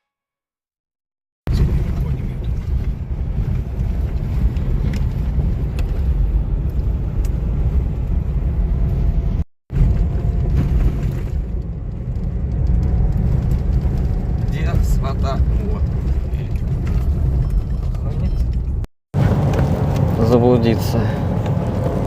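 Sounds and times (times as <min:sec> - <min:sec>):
car driving rumble: 0:01.5 - 0:22.0.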